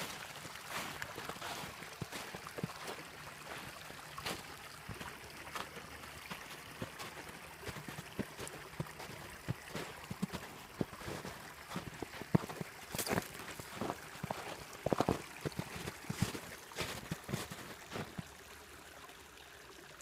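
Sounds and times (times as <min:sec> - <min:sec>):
short water clicks: 0:00.0 - 0:18.4
creek water trickling over rocks: 0:00.0 - 0:20.0.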